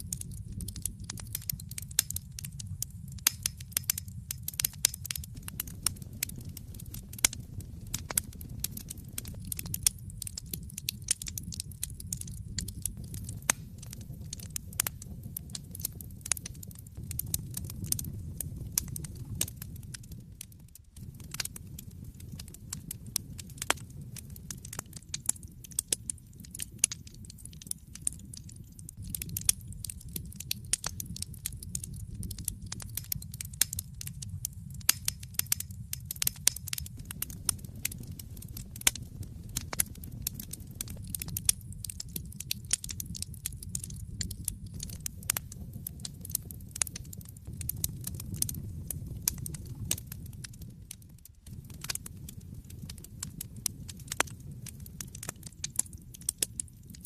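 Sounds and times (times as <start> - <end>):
burning logs popping and snapping: 0.0 - 57.0
low rumble of flames: 0.0 - 57.0.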